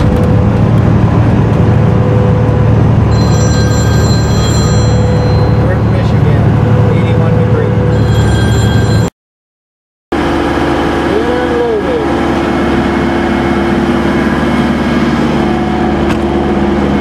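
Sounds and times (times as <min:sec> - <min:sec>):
truck diesel engine running: 0:00.0 - 0:09.1, 0:10.1 - 0:17.0.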